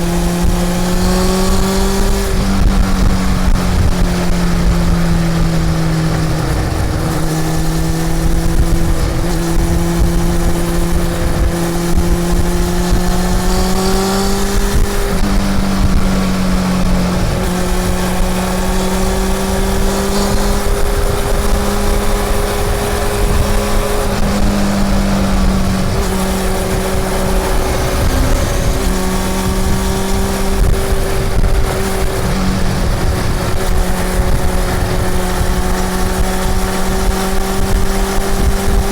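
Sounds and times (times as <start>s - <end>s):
motorcycle engine accelerating: 0.0s - 38.9s
road and wind noise: 0.0s - 38.9s.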